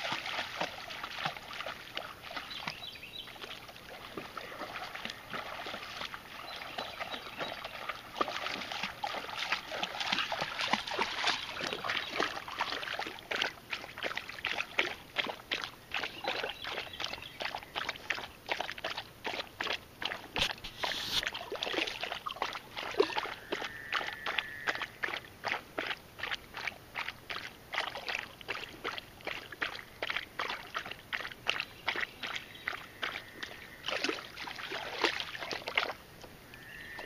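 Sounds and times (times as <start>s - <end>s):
dog lapping water: 0.0s - 36.4s.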